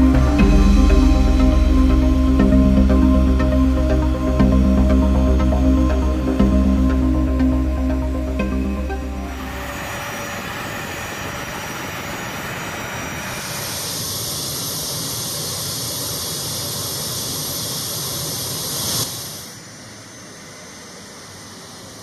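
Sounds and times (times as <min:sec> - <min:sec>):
jet turbine engines roaring: 0:00.0 - 0:22.0.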